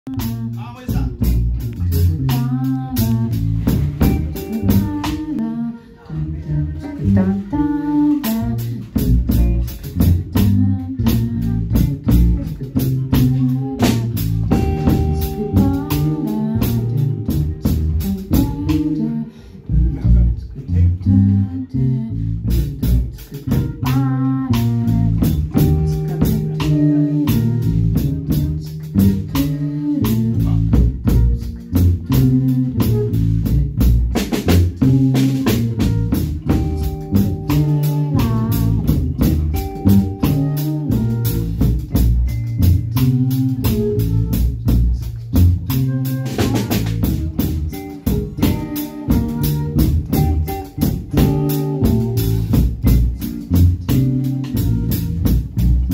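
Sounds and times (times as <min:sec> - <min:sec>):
drum kit beat: 0:00.0 - 0:05.5, 0:06.7 - 0:21.4, 0:22.3 - 0:55.9
guitar: 0:00.0 - 0:55.9
low bass line: 0:00.0 - 0:55.9.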